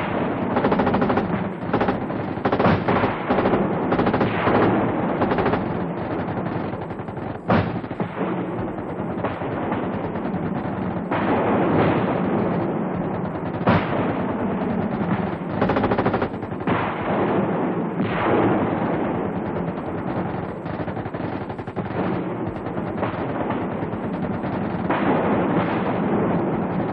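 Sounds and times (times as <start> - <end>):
automatic gunfire bursts: 0.0 - 17.5, 18.2 - 26.9.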